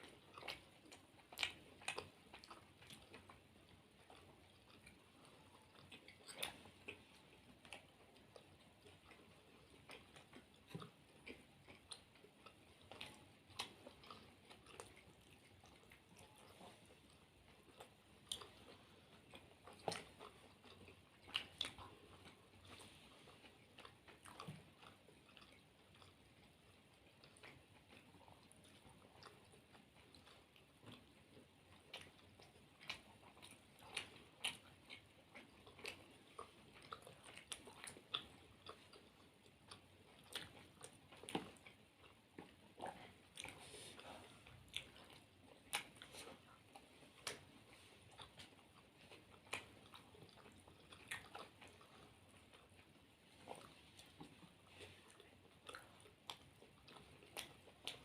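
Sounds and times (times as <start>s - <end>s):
people chewing food: 0.0s - 58.0s.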